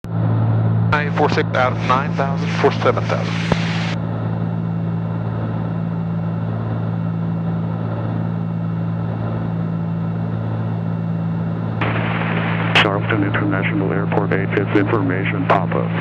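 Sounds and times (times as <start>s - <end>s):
airplane engines droning in cabin: 0.0s - 16.0s.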